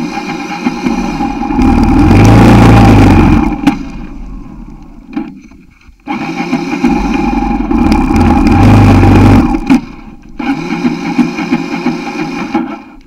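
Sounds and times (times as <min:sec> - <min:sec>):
motorbike engine revving: 0:00.0 - 0:05.3, 0:06.0 - 0:13.0.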